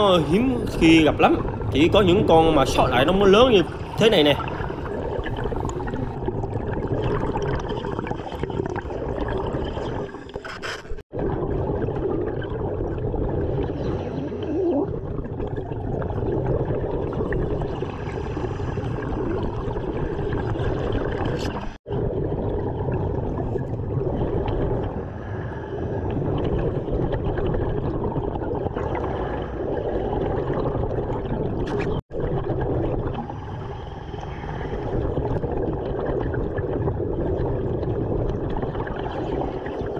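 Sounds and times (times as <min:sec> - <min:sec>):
bubbles gurgling: 0:00.0 - 0:39.9.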